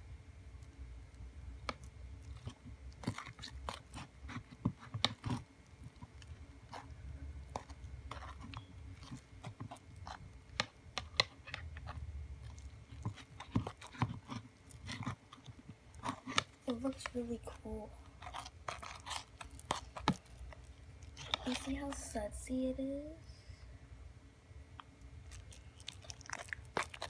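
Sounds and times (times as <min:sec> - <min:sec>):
crunchy bead slime being stirred: 0:00.4 - 0:23.1, 0:24.7 - 0:27.0.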